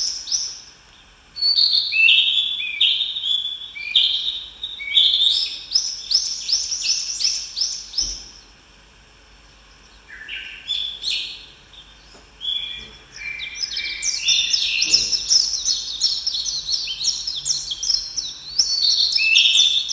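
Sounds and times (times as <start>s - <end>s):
songbirds chirping: 0.0s - 19.9s.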